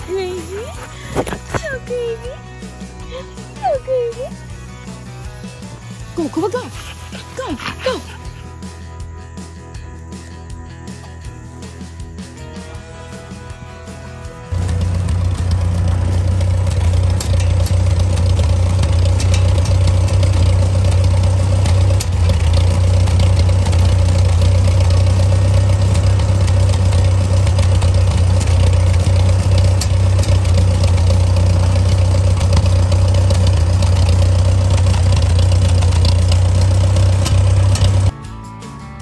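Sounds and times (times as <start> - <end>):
tractor engine idling: 0.0 - 38.1.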